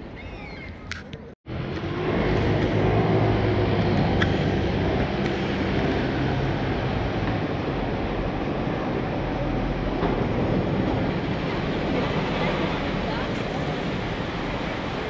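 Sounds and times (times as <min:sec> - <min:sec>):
city traffic noise: 0:00.0 - 0:15.0
vehicle engine humming: 0:01.5 - 0:15.0.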